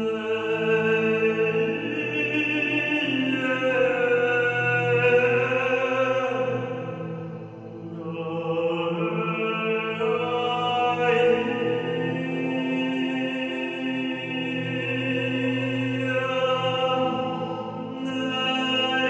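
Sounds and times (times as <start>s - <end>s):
slow chant-like music: 0.0s - 19.0s.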